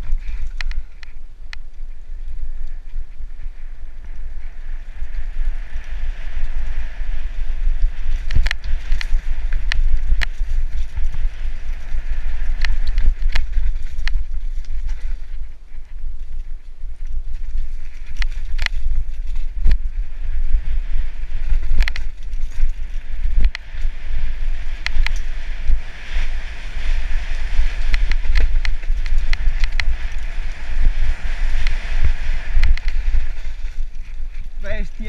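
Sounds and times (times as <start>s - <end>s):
wind buffeting microphone: 0.0s - 35.0s
bike rattling and knocking: 5.8s - 35.0s.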